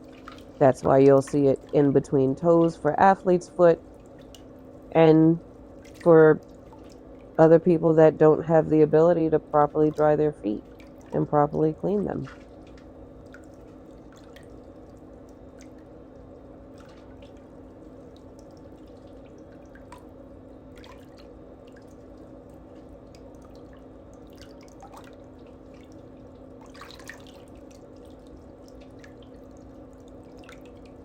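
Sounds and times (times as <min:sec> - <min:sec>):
soft drip-like ticks: 0:00.0 - 0:03.0, 0:03.7 - 0:07.4, 0:09.8 - 0:11.2, 0:12.3 - 0:31.0
steady low hum: 0:00.0 - 0:31.0.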